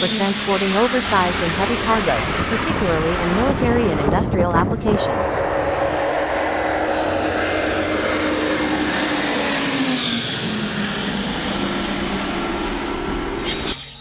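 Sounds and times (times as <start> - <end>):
jet engine roar: 0.0 - 13.8.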